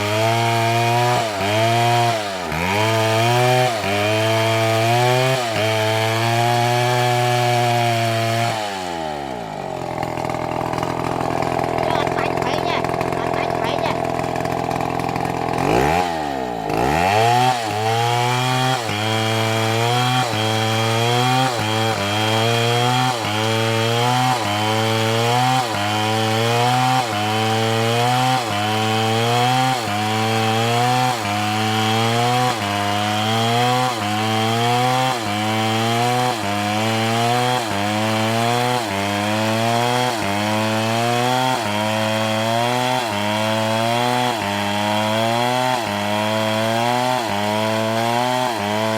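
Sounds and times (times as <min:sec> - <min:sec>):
motor-driven saw cutting wood: 0:00.0 - 0:48.9.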